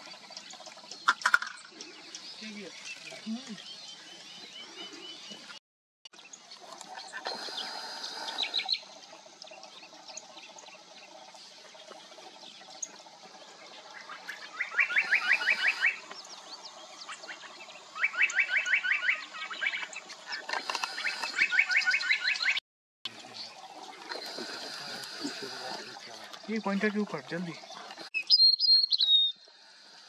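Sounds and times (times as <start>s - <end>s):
faint outdoor background: 0.0s - 30.0s.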